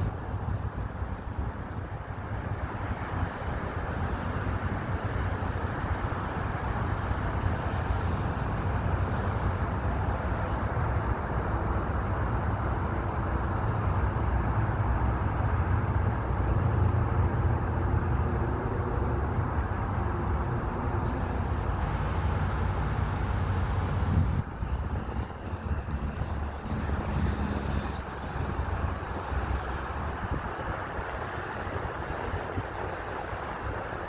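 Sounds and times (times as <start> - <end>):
distant road traffic rumble: 0.0 - 34.0.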